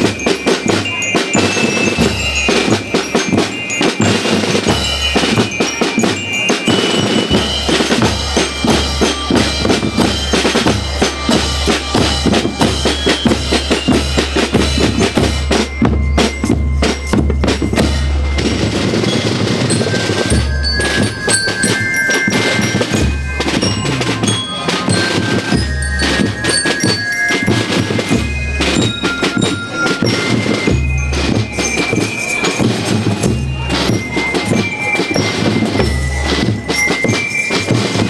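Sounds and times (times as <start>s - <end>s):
bell lyres ringing melody: 0.0s - 38.0s
snare drums beating: 0.0s - 38.0s.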